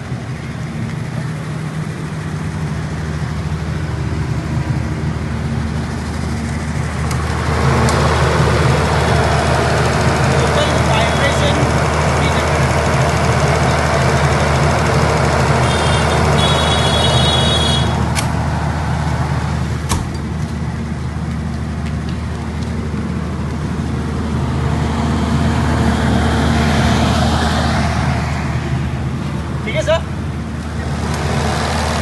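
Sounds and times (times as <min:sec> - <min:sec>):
diesel generator running: 0:00.0 - 0:32.0.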